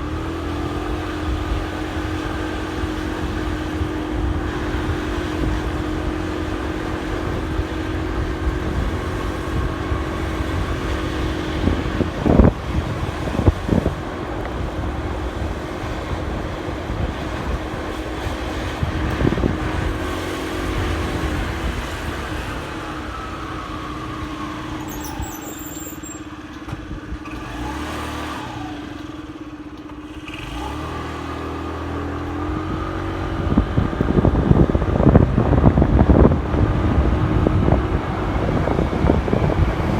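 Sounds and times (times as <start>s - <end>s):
motorcycle engine running: 0.0s - 23.1s, 26.8s - 39.9s
road and wind noise: 0.0s - 39.9s.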